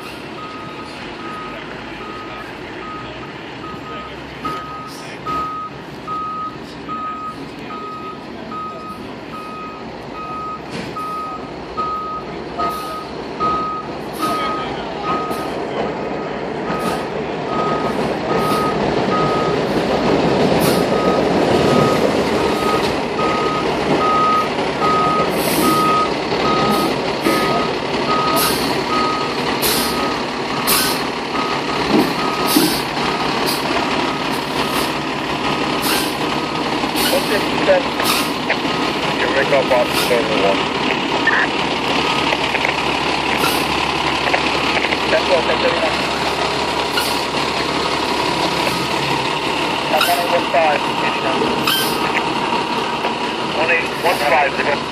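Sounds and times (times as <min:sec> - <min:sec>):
reversing alarm beeping: 0:00.0 - 0:15.6, 0:16.2 - 0:19.8, 0:20.7 - 0:35.0, 0:36.4 - 0:52.7
diesel engine running: 0:00.0 - 0:54.9.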